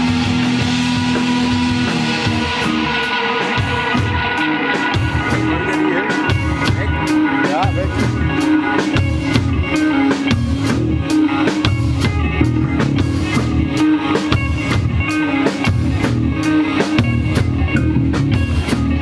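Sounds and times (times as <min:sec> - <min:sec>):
drum kit beat: 0:00.0 - 0:19.0
electric bass: 0:00.0 - 0:19.0
electric guitar: 0:00.0 - 0:19.0.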